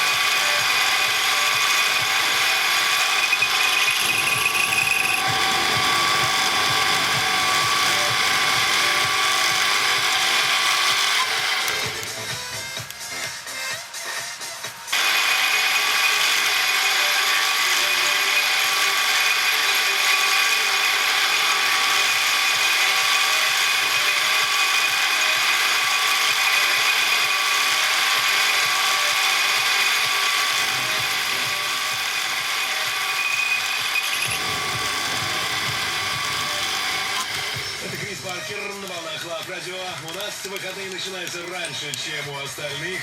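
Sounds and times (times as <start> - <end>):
metal lathe whine and rattle: 0.0 - 13.4, 14.9 - 43.0.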